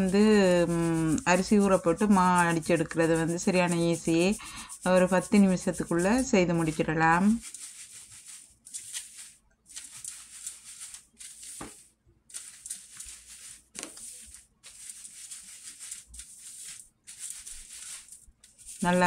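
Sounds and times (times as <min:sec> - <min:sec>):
flour rustling through sieve: 0:00.0 - 0:19.0.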